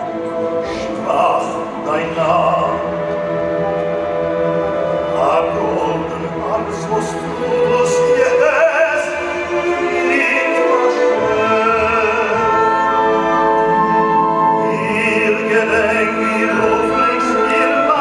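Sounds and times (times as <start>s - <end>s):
symphony orchestra: 0.0s - 18.0s
man singing operatically: 0.1s - 3.3s, 4.8s - 18.0s.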